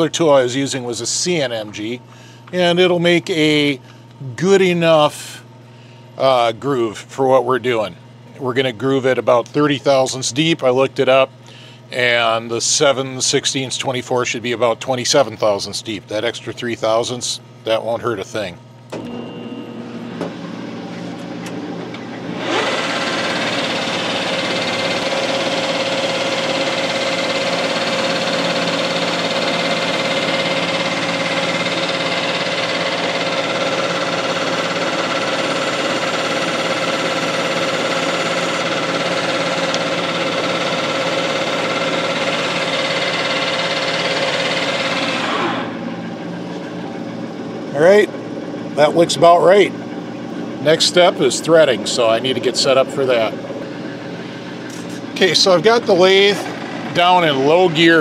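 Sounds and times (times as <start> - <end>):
metal lathe running with whine: 0.0 - 58.0.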